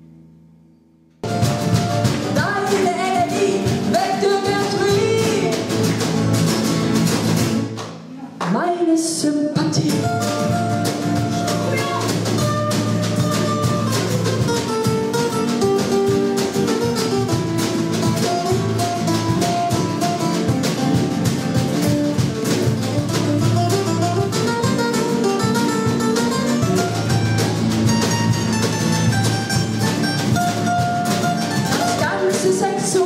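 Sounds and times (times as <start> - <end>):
acoustic guitars strumming: 0.0 - 8.3, 9.6 - 33.0
drum kit beat: 1.2 - 8.1, 9.7 - 33.0.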